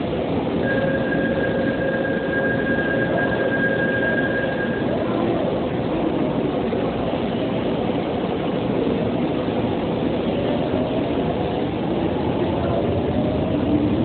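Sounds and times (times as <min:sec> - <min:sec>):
train rumbling with faint whine: 0:00.0 - 0:14.0.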